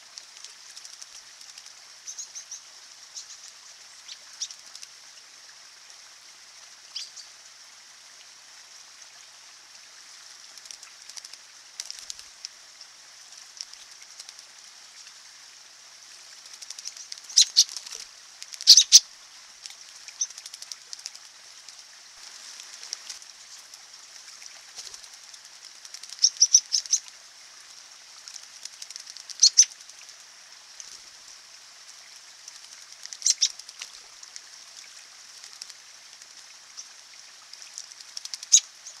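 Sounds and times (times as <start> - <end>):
birds wing-flapping and splashing: 0.0 - 6.0, 8.5 - 39.0
running water trickling: 0.0 - 39.0.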